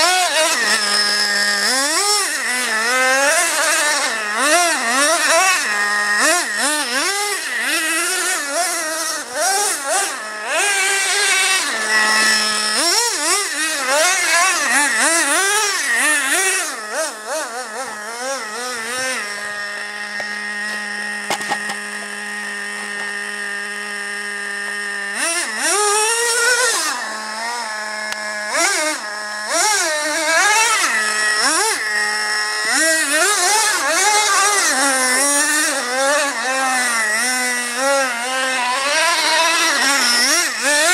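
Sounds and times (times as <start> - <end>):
model engine revving and idling: 0.0 - 40.9.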